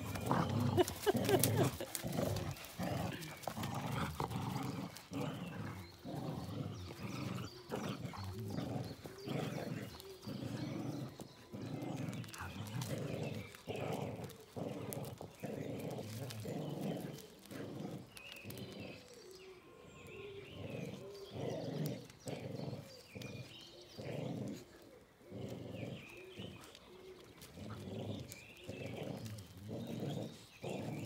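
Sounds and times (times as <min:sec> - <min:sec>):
dogs growling in play: 0:00.0 - 0:31.0.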